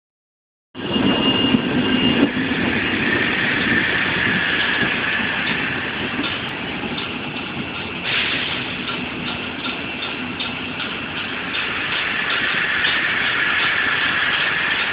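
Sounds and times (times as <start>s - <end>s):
train running gear rumble: 0.8s - 14.9s.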